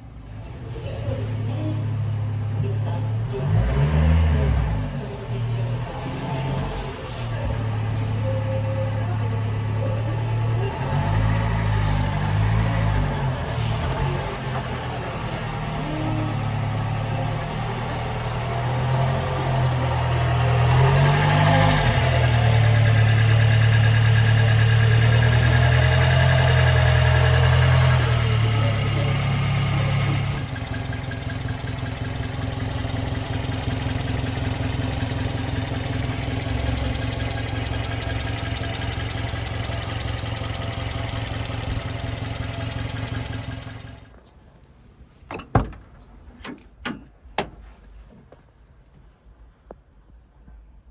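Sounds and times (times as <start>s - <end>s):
truck engine running: 0.0s - 44.2s.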